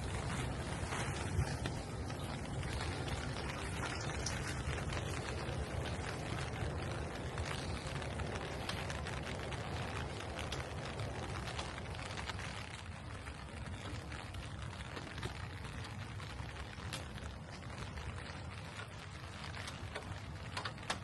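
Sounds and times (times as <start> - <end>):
low rumble: 0.0 - 20.9
rain falling: 0.0 - 21.0.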